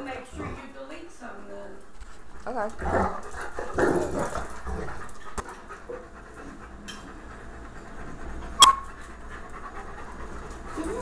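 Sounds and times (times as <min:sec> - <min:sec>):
dog panting: 0:02.0 - 0:11.0.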